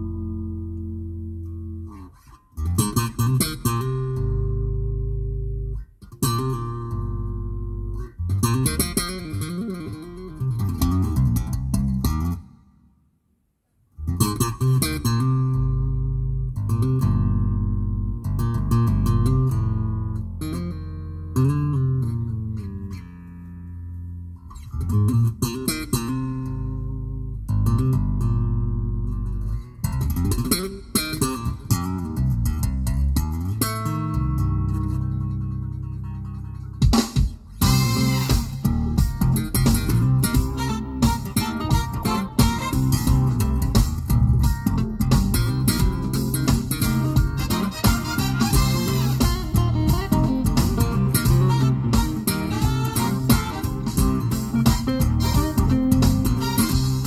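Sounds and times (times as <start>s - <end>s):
loud music with guitar and bass: 0.0s - 12.5s, 14.0s - 57.0s.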